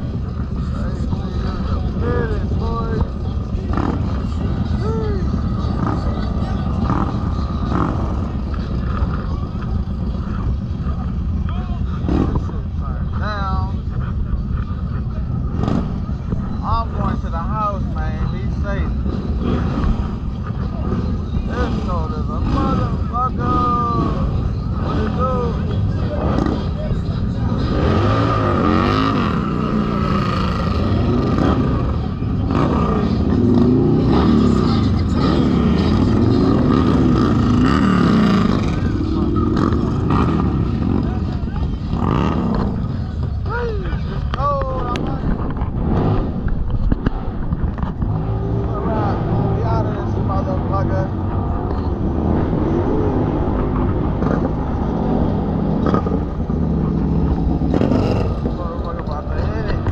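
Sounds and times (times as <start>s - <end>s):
motorcycle engines idling and revving: 0.0s - 59.9s
voices: 0.0s - 59.9s.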